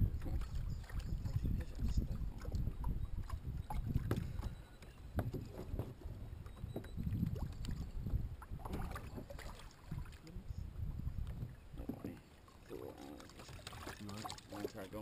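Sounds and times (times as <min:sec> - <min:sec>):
wind rumbling on microphone: 0:00.0 - 0:12.2.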